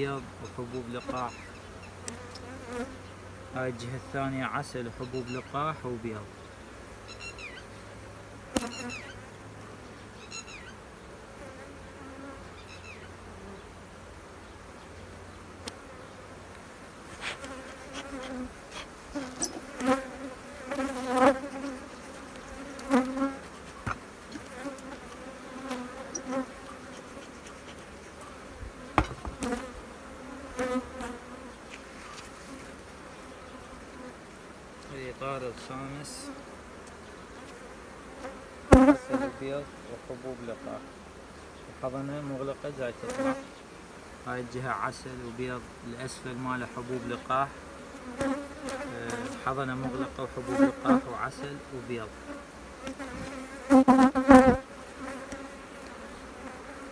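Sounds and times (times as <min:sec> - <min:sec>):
bees flying close past: 0:00.0 - 0:56.9
honeybees buzzing: 0:00.0 - 0:56.9.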